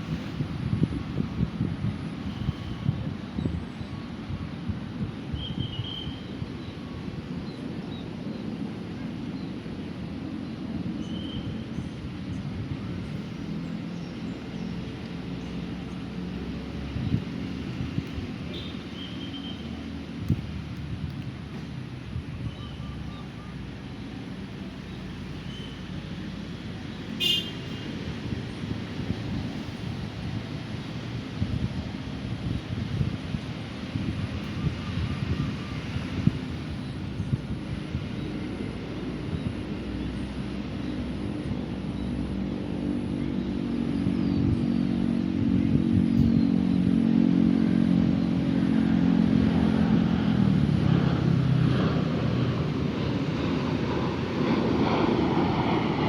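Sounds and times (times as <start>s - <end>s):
distant road traffic rumble: 0.0s - 56.0s.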